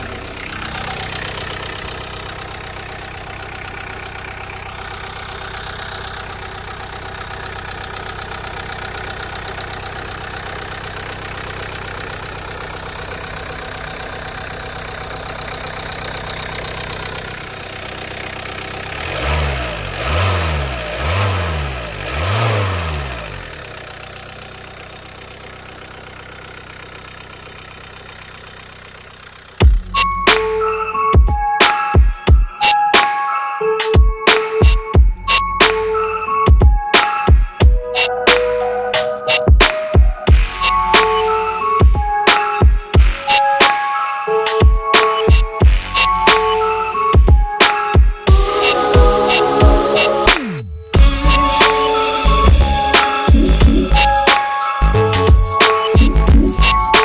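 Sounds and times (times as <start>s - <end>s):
diesel engine idling and revving: 0.0s - 31.7s, 34.2s - 57.0s.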